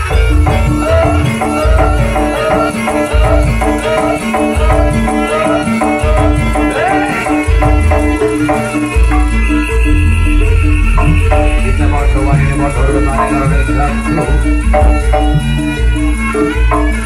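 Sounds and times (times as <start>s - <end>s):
gamelan music: 0.0s - 17.0s
heavy drum beats: 0.0s - 17.0s
struck pitched tones: 0.0s - 17.0s
wavering melody line: 0.0s - 17.0s.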